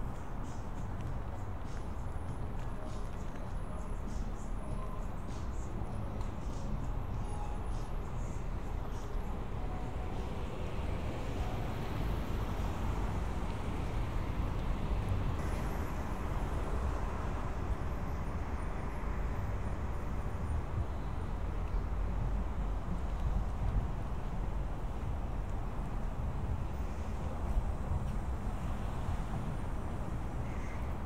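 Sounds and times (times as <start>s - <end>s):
street traffic rumble: 0.0s - 31.0s.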